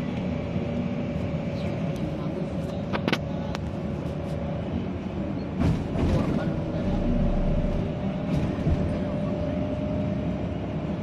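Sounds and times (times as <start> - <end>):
vehicle road rumble: 0.0 - 11.0.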